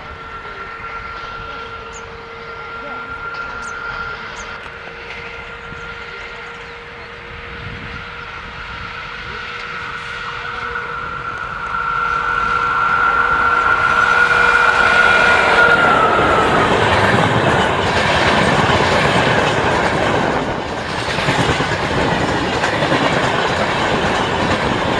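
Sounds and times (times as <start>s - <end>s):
locomotive high whine: 0.0s - 24.9s
train rolling noise: 0.0s - 24.9s.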